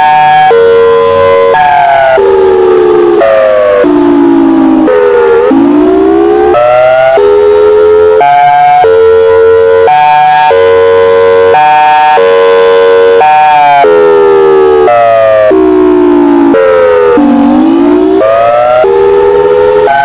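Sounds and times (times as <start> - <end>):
air raid siren wailing: 0.0 - 20.0.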